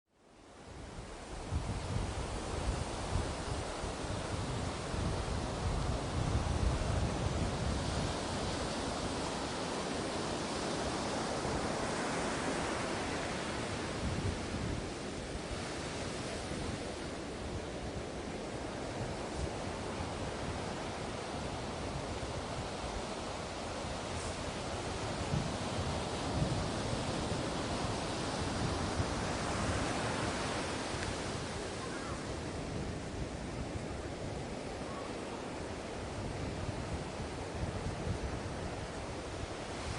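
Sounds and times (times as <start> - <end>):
sea waves washing on shore: 0.4 - 39.9.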